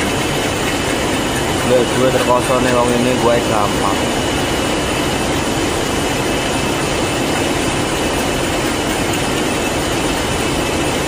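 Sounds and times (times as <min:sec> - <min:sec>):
machine drone: 0:00.0 - 0:11.0.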